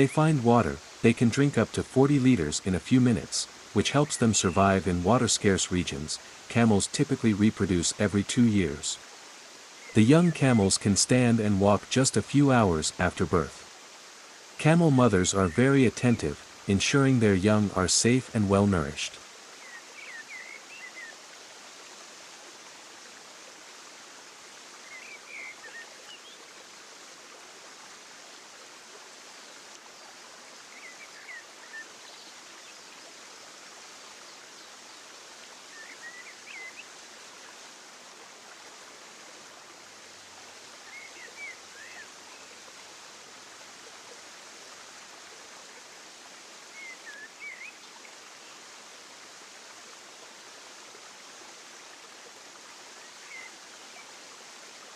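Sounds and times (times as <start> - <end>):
steady rushing hiss: 0.0 - 54.9.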